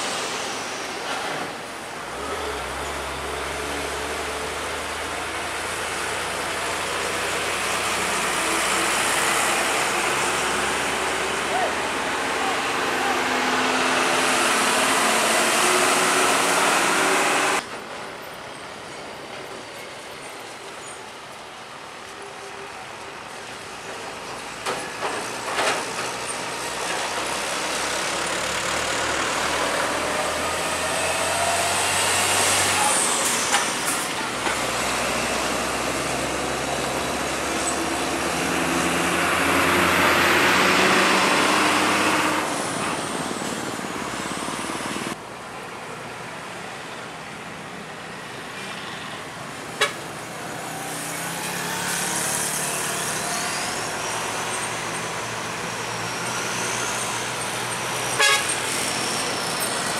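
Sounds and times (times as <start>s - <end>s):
diesel trucks passing: 0.0s - 59.9s
tyre and road noise: 0.0s - 59.9s.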